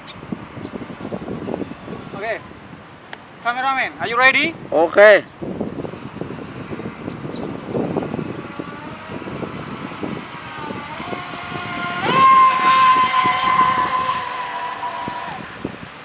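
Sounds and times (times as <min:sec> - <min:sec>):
boat motor whining: 0:00.0 - 0:03.1, 0:05.4 - 0:16.0.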